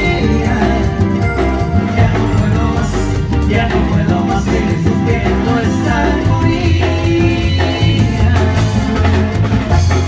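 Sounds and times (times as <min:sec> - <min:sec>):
live band playing latin dance music: 0:00.0 - 0:10.0.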